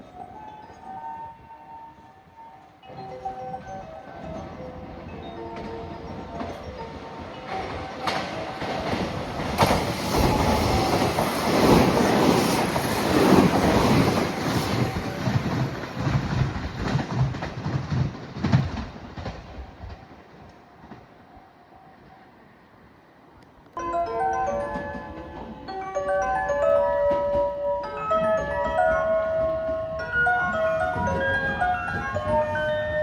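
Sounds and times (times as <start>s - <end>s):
electric train wheels clattering: 2.8s - 21.1s, 23.8s - 33.0s.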